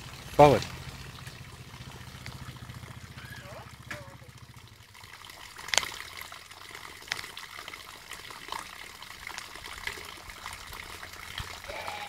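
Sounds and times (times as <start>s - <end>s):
water trickling and lapping: 0.0s - 12.0s.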